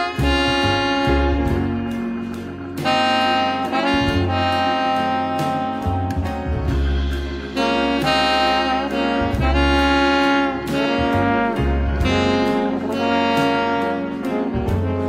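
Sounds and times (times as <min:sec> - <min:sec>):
slow jazz-like instrumental music: 0:00.0 - 0:15.0.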